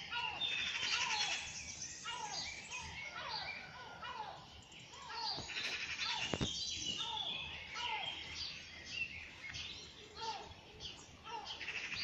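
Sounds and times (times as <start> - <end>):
birds singing and chirping: 0.0 - 12.0.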